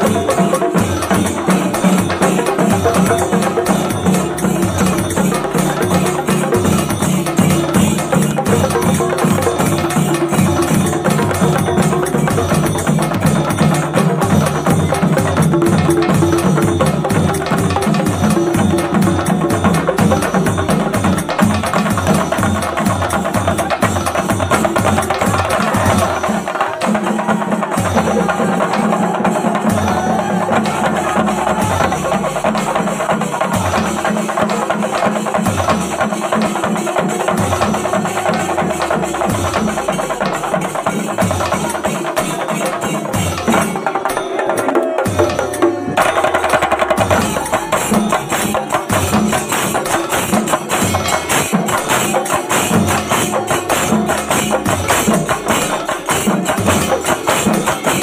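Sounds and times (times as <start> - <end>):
percussion-led music: 0.0 - 58.0.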